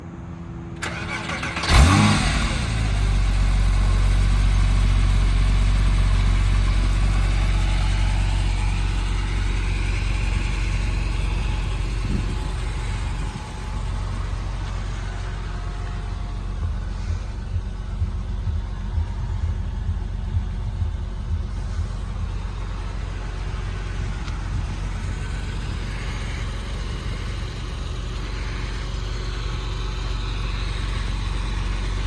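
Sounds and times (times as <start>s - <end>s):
car engine starting and idling: 0.8s - 32.0s.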